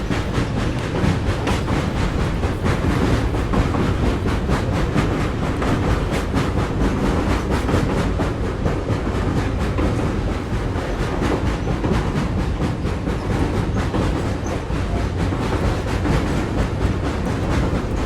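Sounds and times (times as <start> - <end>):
rail clatter: 0.0 - 18.0
train wheels rumbling on track: 0.0 - 18.0.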